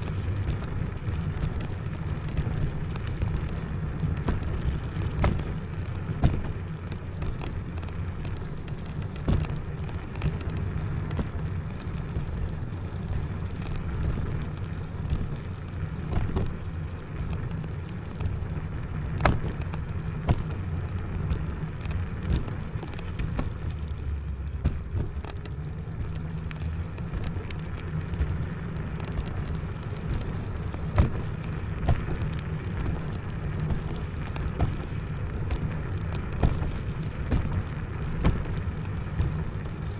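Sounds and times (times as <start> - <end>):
scooter knocking and rattling: 0.0 - 39.9
wind and tyres rumbling: 0.0 - 39.9.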